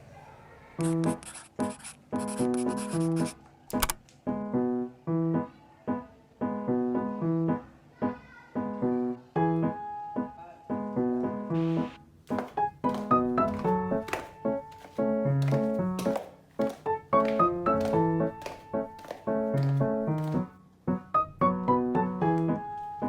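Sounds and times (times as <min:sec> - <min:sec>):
bouncy piano chords: 0:04.3 - 0:23.0.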